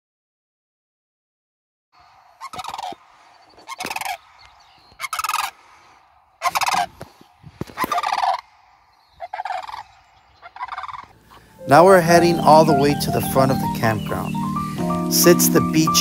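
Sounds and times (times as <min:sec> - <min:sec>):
cranes calling: 0:02.0 - 0:15.6.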